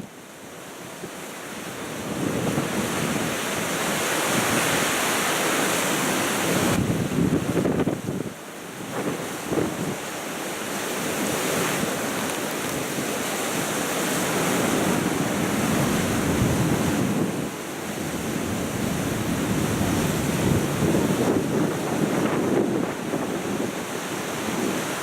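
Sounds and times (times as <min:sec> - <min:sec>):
storm wind buffeting microphone: 0:01.6 - 0:10.1, 0:10.9 - 0:25.0.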